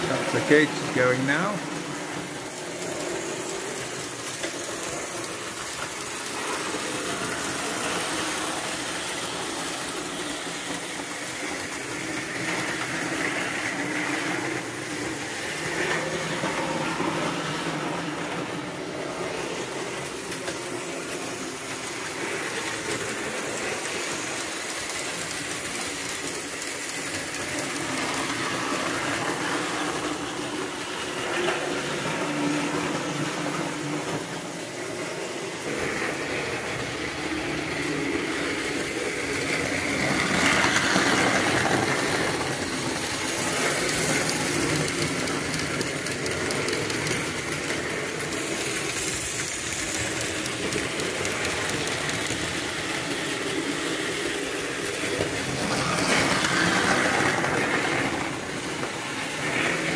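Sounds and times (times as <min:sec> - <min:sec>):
toy trains running on metal track: 0:00.0 - 0:59.9.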